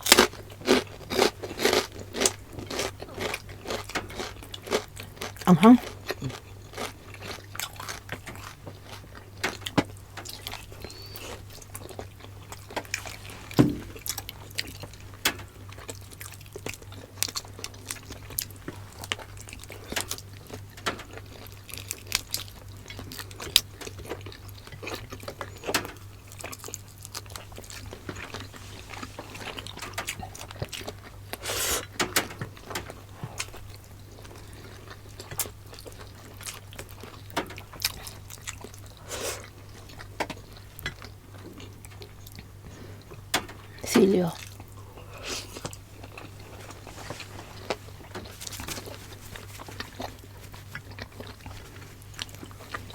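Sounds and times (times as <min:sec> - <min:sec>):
chewing and biting food: 0:00.0 - 0:43.8, 0:44.4 - 0:52.9.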